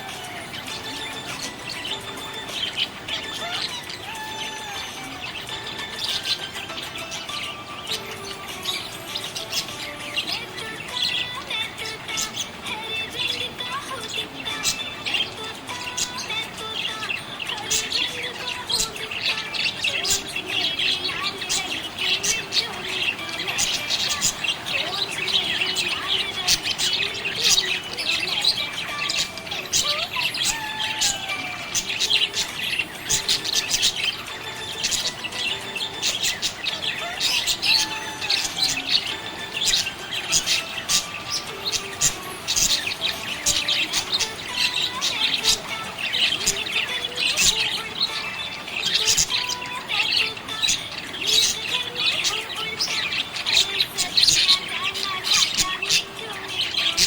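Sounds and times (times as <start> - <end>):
budgerigars chirping and chattering: 0.0 - 57.0.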